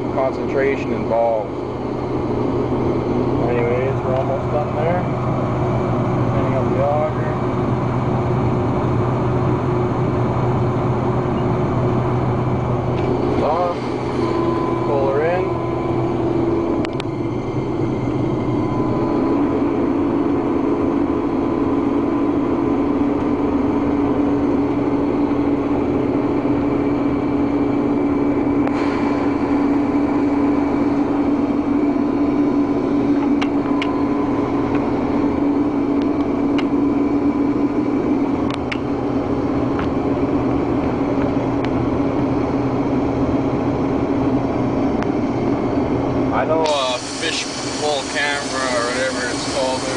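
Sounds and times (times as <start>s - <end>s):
harvester engine humming: 0.0s - 49.9s.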